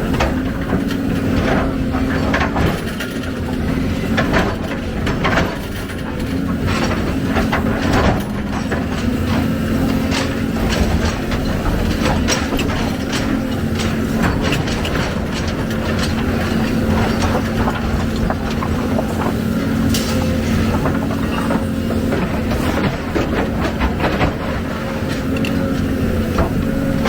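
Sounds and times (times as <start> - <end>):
clanks and knocks of machinery: 0.0 - 27.0
excavator diesel engine running: 0.0 - 27.0.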